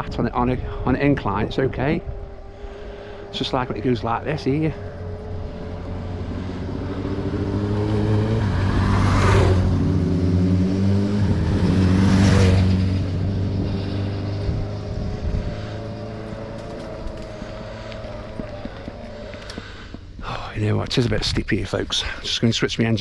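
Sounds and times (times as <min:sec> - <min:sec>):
rushes of noise: 0:00.0 - 0:21.4
small motorbike engine labouring: 0:01.3 - 0:20.1.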